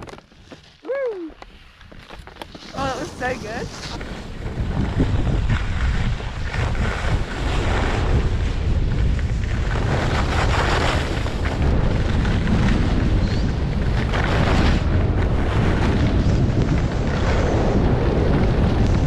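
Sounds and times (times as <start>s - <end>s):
skis scraping on packed snow: 1.4s - 19.0s
wind buffeting microphone: 2.7s - 19.0s.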